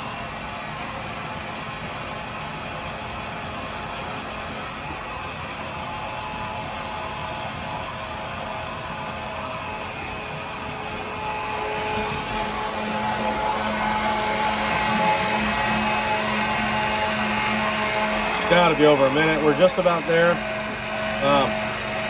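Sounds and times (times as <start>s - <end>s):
electric pump motor whine: 0.0s - 22.0s
steady low hum: 0.0s - 22.0s.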